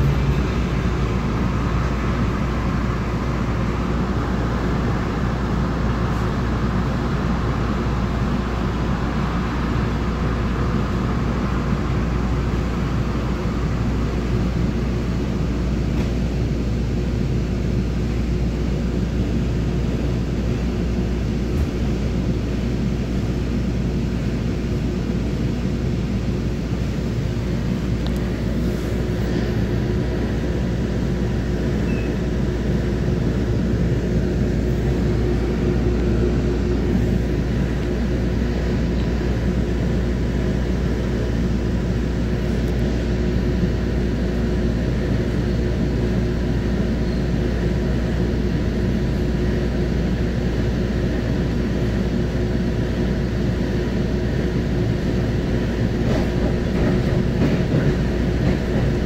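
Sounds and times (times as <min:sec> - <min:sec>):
constant hum: 0:00.0 - 0:59.0
train low rumble: 0:00.0 - 0:59.0.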